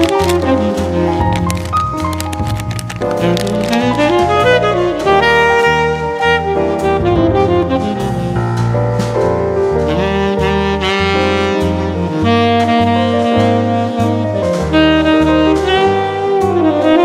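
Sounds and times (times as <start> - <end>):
light drums: 0.0 - 17.0
saxophone melody: 0.0 - 17.0
walking bass line: 0.0 - 17.0.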